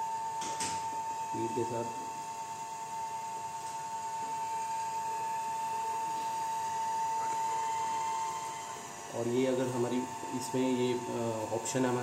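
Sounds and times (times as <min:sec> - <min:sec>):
electric motor high whine: 0:00.0 - 0:12.0.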